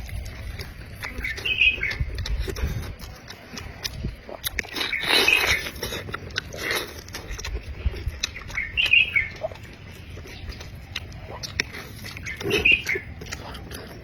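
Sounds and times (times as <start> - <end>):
chewing and biting food: 0.0 - 14.0
wet mouth clicks: 0.0 - 14.0.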